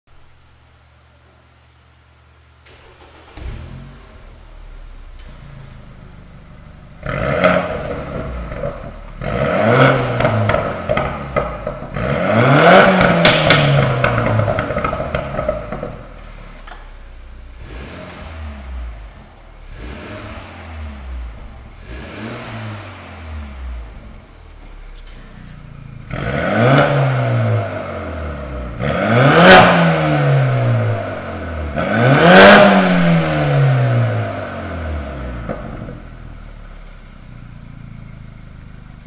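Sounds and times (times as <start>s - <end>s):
car engine revving: 2.6s - 39.0s.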